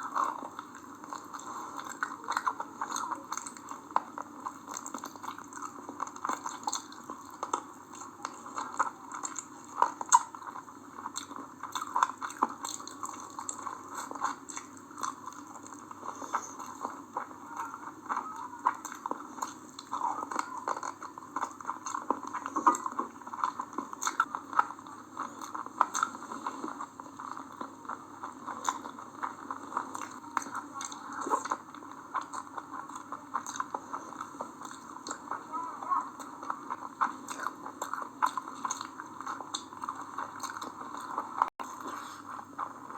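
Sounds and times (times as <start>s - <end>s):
person chewing wetly: 0.0s - 42.9s.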